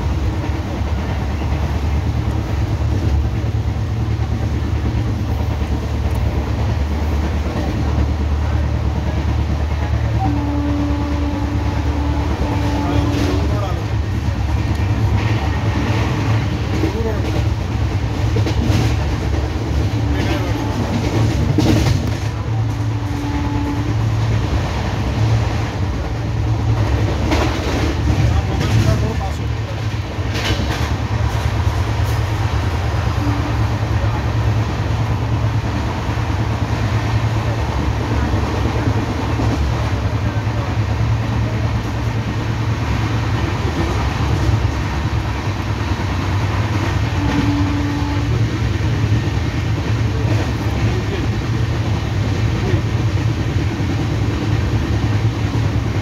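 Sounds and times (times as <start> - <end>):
train coach rumbling on track: 0.0 - 56.0.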